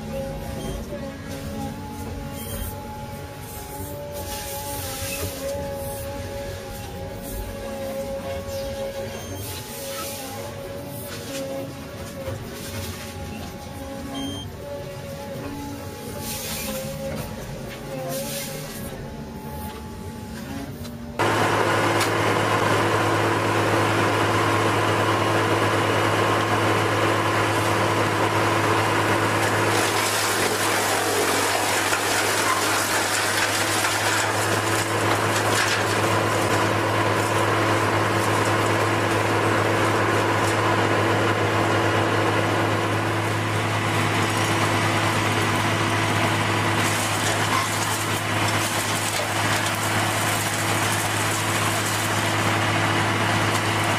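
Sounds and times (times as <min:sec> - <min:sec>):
heavy machine engine droning: 0:00.0 - 0:53.9.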